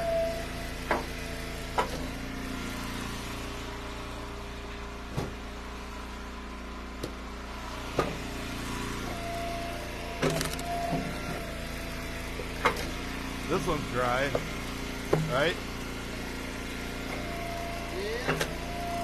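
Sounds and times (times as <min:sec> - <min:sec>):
log splitter engine running: 0:00.0 - 0:19.0.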